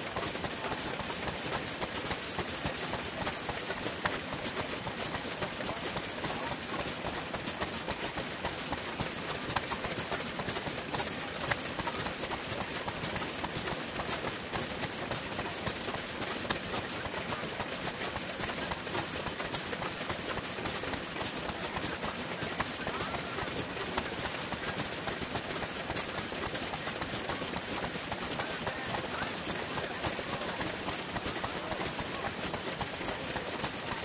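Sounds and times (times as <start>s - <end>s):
stationary engines popping and clattering: 0.0s - 34.0s.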